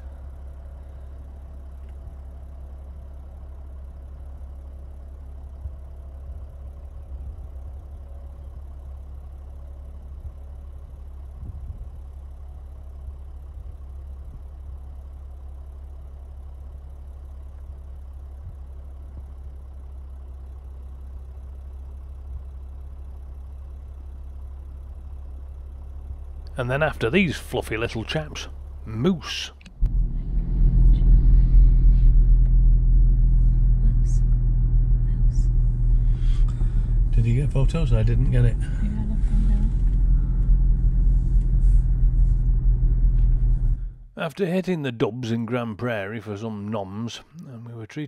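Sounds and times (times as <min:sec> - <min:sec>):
car engine idling: 0:00.0 - 0:47.3.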